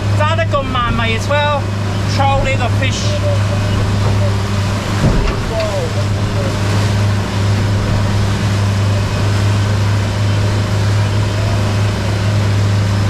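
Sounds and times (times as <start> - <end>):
boat engine humming: 0.0 - 13.0
constant rushing noise: 0.0 - 13.0.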